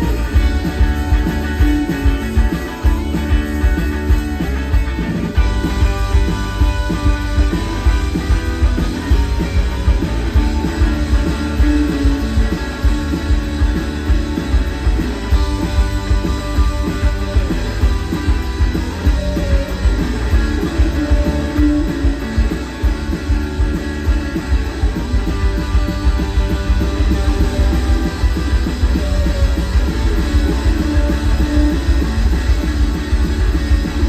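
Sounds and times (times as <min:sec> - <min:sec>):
instrumental rock music: 0:00.0 - 0:34.0.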